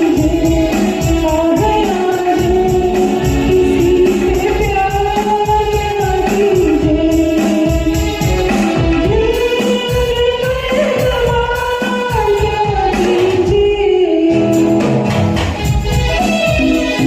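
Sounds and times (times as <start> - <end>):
woman singing: 0.0 - 15.2, 15.8 - 17.0
musical accompaniment with drum beat: 0.0 - 17.0.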